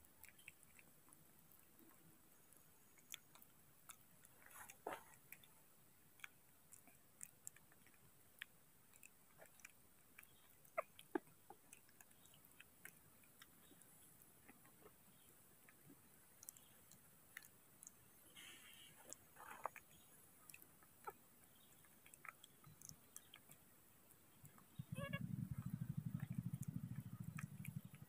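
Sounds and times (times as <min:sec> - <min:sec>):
monkeys chewing wet clicks: 0:00.0 - 0:28.0.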